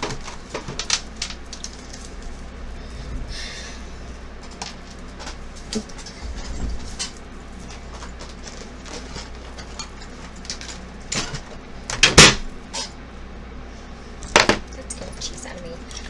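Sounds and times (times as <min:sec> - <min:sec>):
containers clattering: 0:00.0 - 0:02.9, 0:03.6 - 0:13.0, 0:14.1 - 0:16.0.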